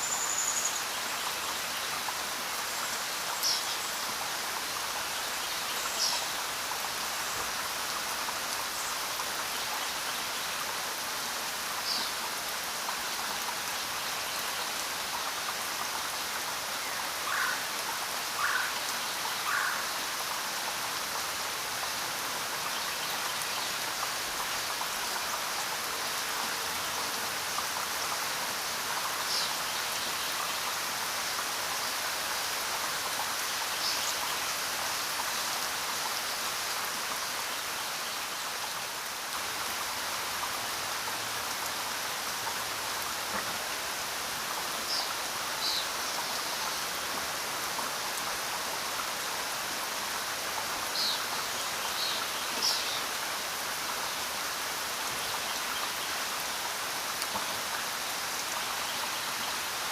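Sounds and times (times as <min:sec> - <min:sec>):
rain falling on ground: 0:00.0 - 0:59.9.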